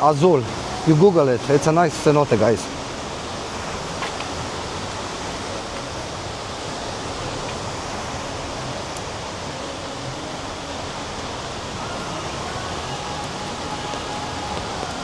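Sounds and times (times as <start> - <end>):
heavy rain: 0.0 - 15.0
waterfall roar: 0.0 - 15.0.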